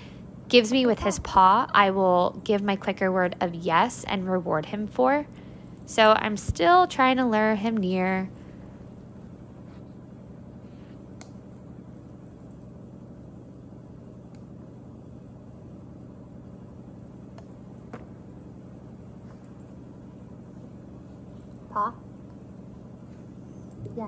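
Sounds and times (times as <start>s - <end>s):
room tone hum: 0.0s - 24.0s.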